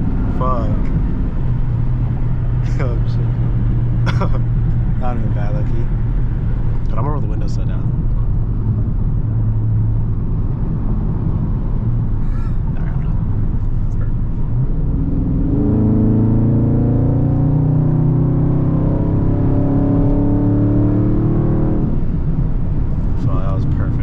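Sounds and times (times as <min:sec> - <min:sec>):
car exhaust droning: 0:00.0 - 0:24.0.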